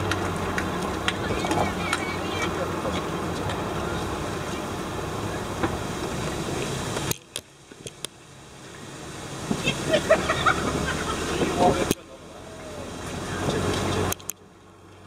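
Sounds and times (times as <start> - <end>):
vehicle running and road noise: 0.0 - 15.0.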